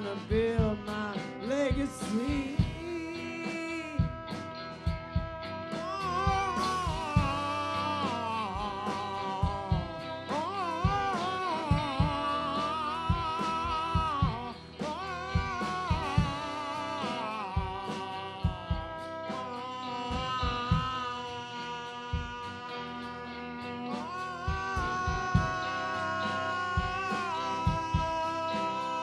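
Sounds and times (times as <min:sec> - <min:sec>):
drum beats: 0:00.0 - 0:29.0
live band music: 0:00.0 - 0:29.0.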